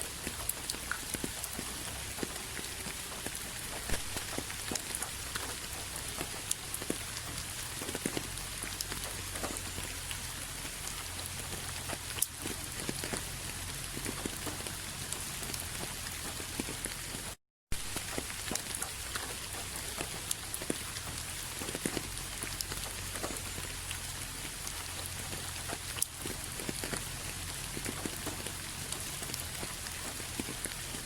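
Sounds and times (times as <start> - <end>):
rain hiss: 0.0 - 31.0
raindrops ticking on surface: 0.0 - 31.0.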